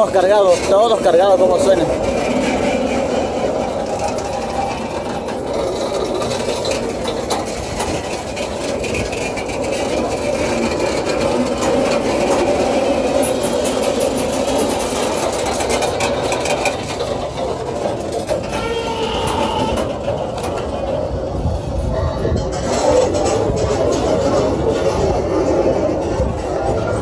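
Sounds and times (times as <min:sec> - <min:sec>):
freight wagons rolling on rails: 0:00.0 - 0:27.0.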